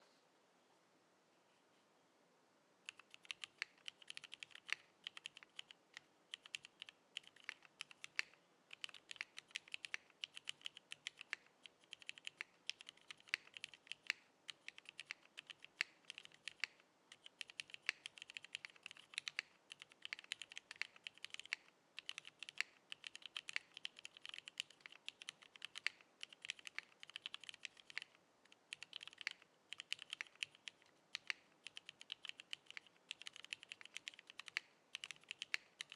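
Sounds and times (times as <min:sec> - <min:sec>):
mechanical keyboard typing: 0:02.9 - 0:35.9.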